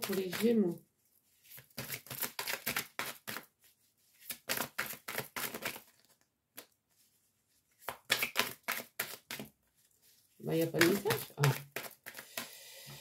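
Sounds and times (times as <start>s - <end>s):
cards being shuffled: 0.0s - 12.5s.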